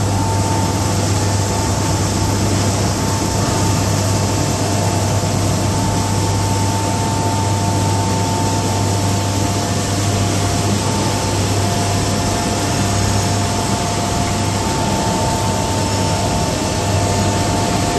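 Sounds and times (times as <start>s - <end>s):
deep machinery hum: 0.0s - 17.9s
furnace machinery rushing noise: 0.0s - 17.9s
high machinery whine: 0.0s - 17.9s.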